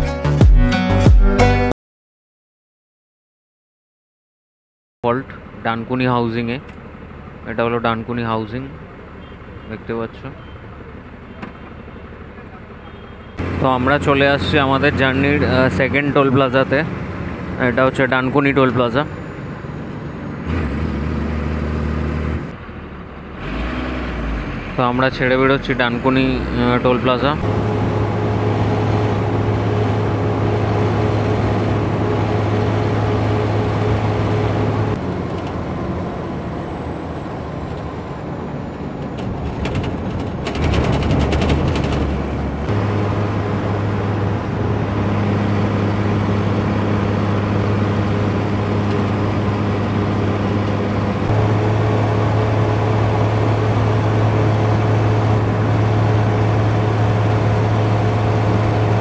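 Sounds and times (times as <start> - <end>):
bus engine drone: 5.0 - 59.0
road noise: 5.0 - 59.0.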